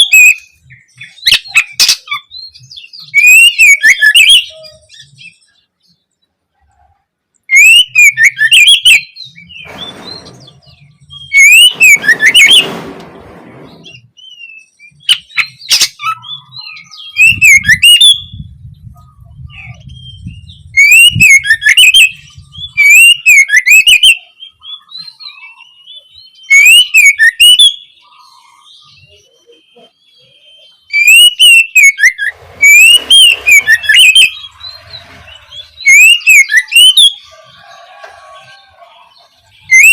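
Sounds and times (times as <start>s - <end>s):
bird singing warbling whistles: 0.0s - 5.5s, 7.5s - 12.8s, 13.6s - 18.5s, 19.5s - 37.4s, 39.5s - 39.9s.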